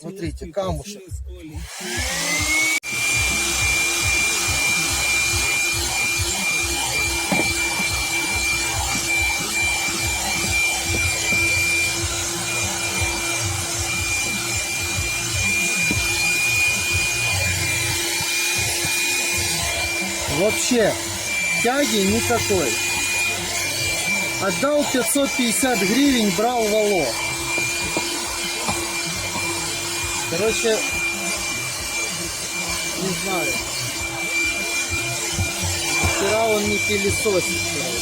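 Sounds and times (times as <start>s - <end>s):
handheld vacuum motor whine: 1.5s - 38.0s.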